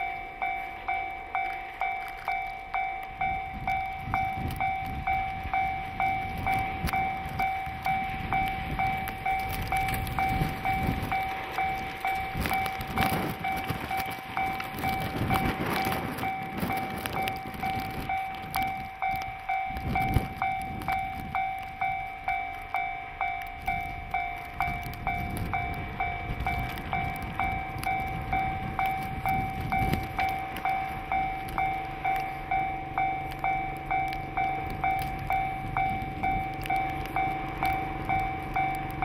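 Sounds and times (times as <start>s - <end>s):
level crossing warning bell ringing: 0.0s - 39.0s
locomotive diesel engine drone: 0.0s - 39.0s.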